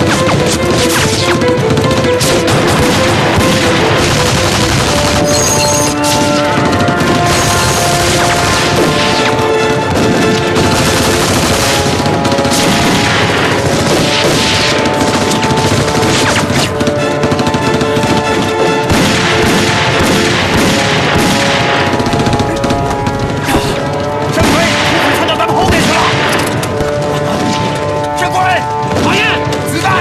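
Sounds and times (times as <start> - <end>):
background music with held notes: 0.0 - 30.0
rapid gunfire: 0.0 - 30.0.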